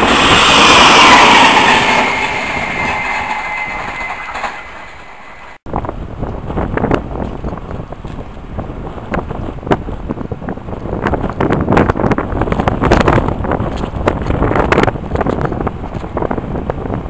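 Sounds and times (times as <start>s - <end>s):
wind buffeting microphone: 0.0s - 4.6s, 5.6s - 17.0s.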